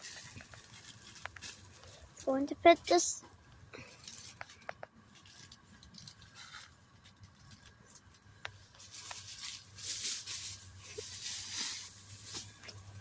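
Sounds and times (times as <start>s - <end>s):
rustling and crinkling: 0.0s - 3.0s, 3.8s - 13.0s.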